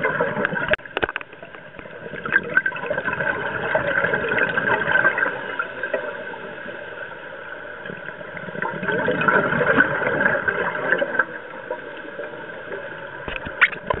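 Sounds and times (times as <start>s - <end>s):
steady underwater hum: 0.0s - 14.0s.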